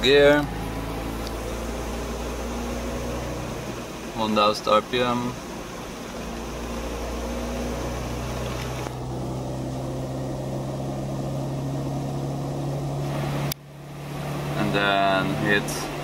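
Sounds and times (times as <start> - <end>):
car engine droning on a dyno: 0.0 - 16.0.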